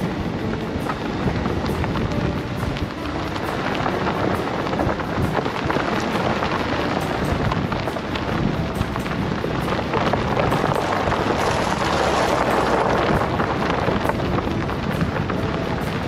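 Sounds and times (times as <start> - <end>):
road rumble: 0.0 - 16.0
tyres crunching on gravel: 0.0 - 16.0
wind through open window: 0.0 - 16.0.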